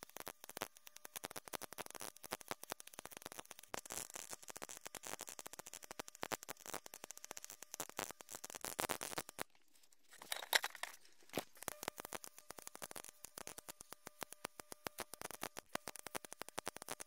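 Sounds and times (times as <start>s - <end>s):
welding arc crackling: 0.0s - 9.6s, 10.3s - 17.0s.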